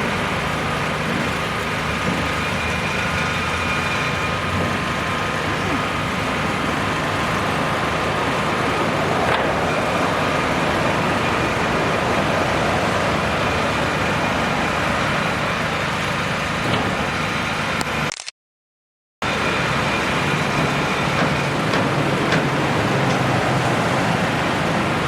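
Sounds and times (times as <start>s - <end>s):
vehicles passing: 0.0s - 18.0s, 19.2s - 25.0s.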